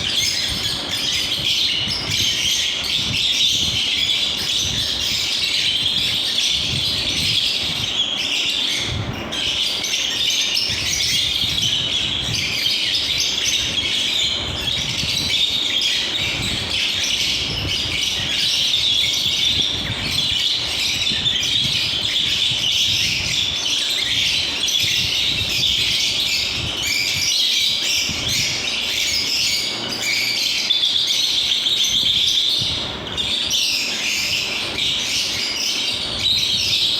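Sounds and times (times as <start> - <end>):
flock of birds chirping: 0.0 - 36.9.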